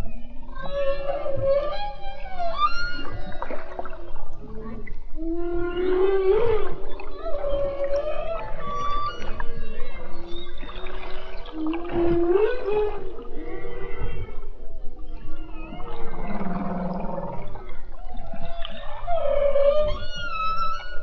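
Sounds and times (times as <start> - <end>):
whale moans and calls: 0.0 - 21.0
whale squeals: 0.0 - 21.0.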